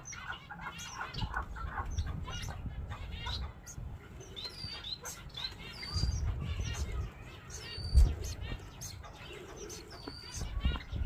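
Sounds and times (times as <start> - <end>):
chicks chirping: 0.0 - 11.0.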